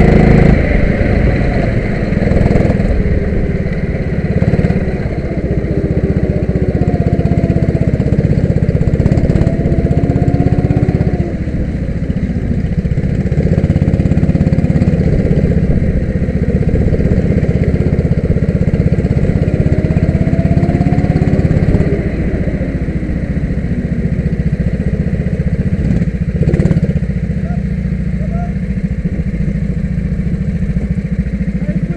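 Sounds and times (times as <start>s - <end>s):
kart engine revving: 0.0s - 31.9s.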